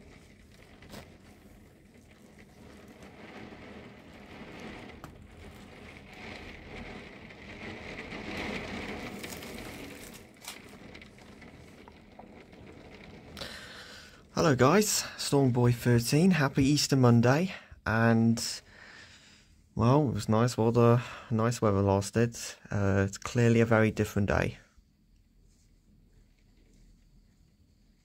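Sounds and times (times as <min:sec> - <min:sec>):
rain pelting window: 0:00.0 - 0:28.0.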